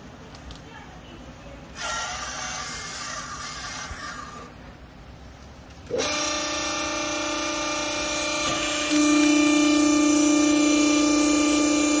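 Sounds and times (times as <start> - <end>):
hydraulic power unit humming: 1.2 - 12.0.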